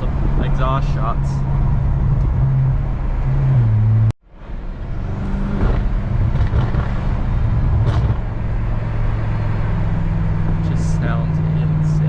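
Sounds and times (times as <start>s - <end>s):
car exhaust rumbling: 0.0s - 12.0s.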